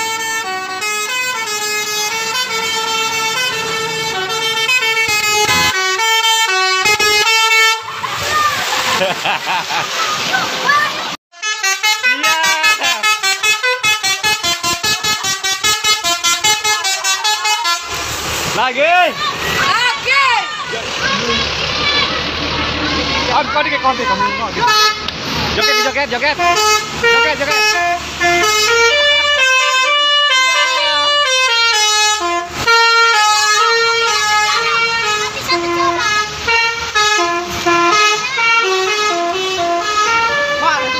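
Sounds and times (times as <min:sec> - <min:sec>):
multi-tone bus horn melody: 0:00.0 - 0:08.2, 0:11.3 - 0:18.6, 0:21.1 - 0:40.9.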